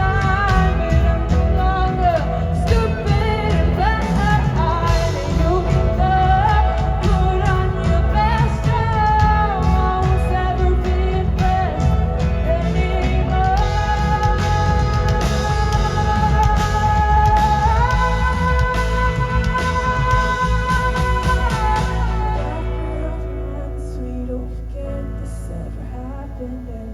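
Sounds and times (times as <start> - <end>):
live rock band playing: 0.0 - 25.6
sliding lead guitar melody: 0.0 - 26.9.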